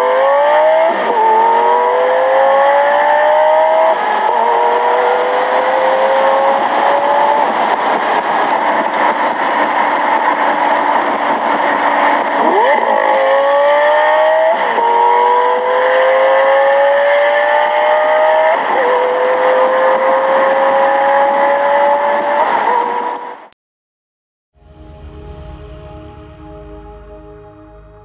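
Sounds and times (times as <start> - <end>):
car engine accelerating: 0.0 - 23.4, 24.6 - 28.0.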